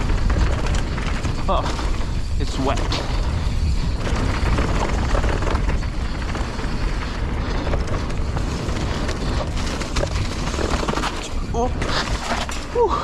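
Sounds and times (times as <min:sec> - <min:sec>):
bike rattling: 0:00.0 - 0:13.0
wind buffeting microphone: 0:00.0 - 0:13.0.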